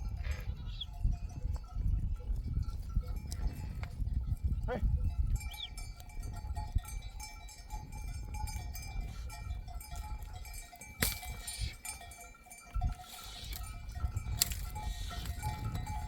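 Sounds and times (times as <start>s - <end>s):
sheep bells ringing: 0.0s - 16.0s.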